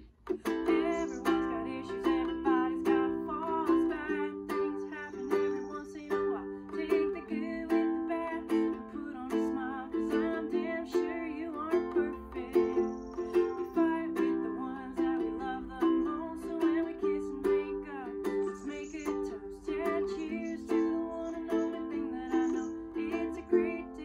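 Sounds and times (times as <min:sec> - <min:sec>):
ukulele strumming: 0:00.0 - 0:24.0.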